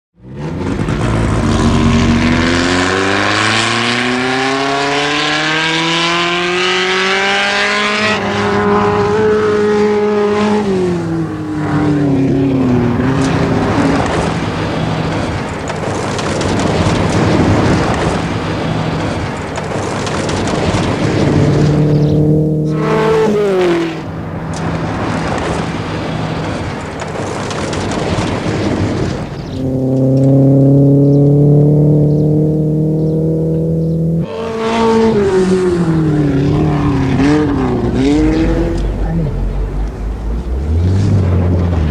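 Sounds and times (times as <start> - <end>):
road noise: 0.1 - 41.9
rally car engine at full throttle: 0.2 - 41.9.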